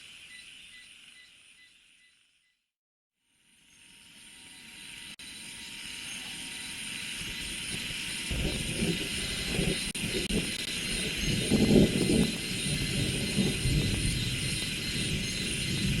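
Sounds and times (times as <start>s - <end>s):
cicadas chorus: 0.0s - 2.2s, 3.4s - 16.0s.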